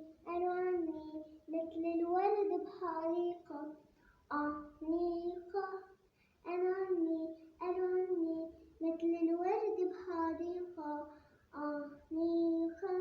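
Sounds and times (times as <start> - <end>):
child singing unaccompanied: 0.0 - 13.0.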